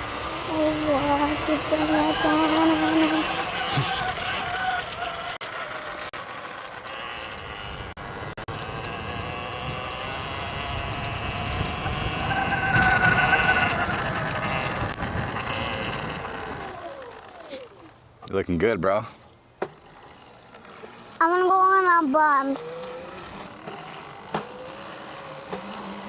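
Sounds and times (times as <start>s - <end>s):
electric motorbike motor whining: 0.0s - 18.2s, 19.0s - 26.0s.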